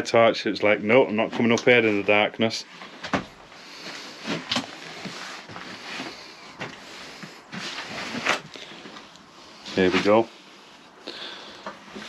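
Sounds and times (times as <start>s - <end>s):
rustling and shuffling: 0.0s - 11.0s, 11.6s - 12.0s.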